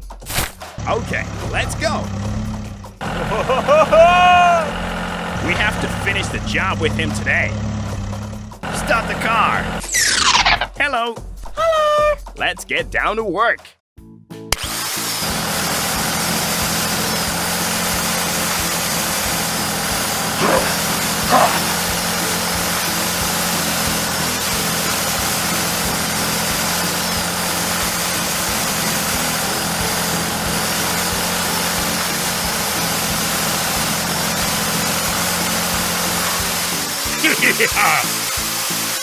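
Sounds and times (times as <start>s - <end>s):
small motor humming: 0.8s - 10.6s, 14.6s - 39.0s.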